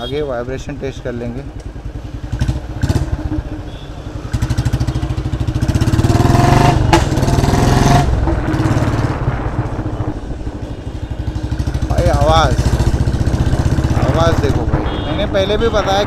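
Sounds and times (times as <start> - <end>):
motorcycle engine exhaust beat: 1.5 - 16.0.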